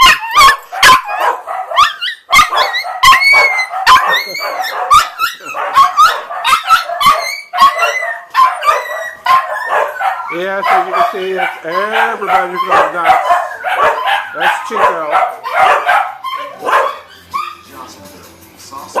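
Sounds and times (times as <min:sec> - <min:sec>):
dogs barking and yipping: 0:00.0 - 0:18.0, 0:18.8 - 0:19.0.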